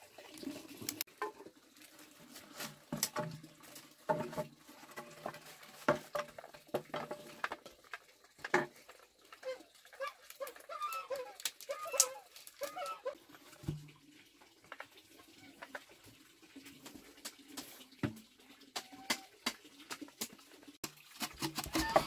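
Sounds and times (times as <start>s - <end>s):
bamboo poles clacking: 0.8s - 13.9s, 16.8s - 22.0s.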